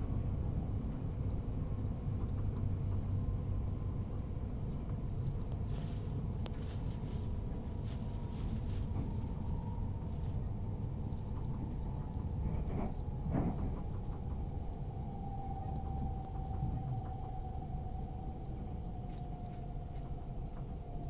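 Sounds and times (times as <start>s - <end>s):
faint steady hum: 0.0s - 21.0s
train wheels rumbling on track: 0.0s - 21.0s.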